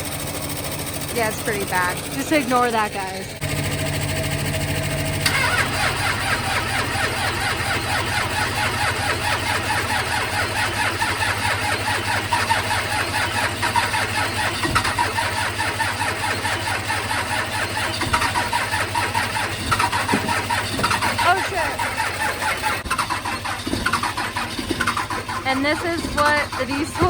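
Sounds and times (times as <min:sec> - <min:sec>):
diesel engine cranking: 0:00.0 - 0:27.0.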